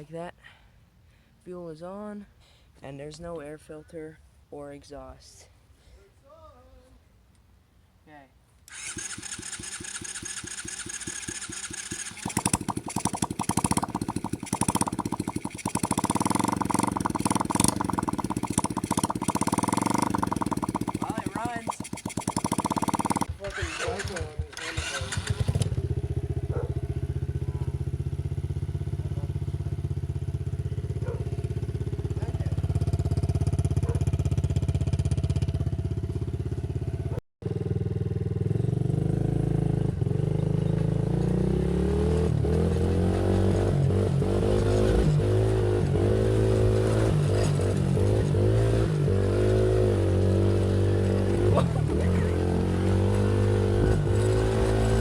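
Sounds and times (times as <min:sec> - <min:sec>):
small engine idling and revving: 0:08.7 - 0:55.0.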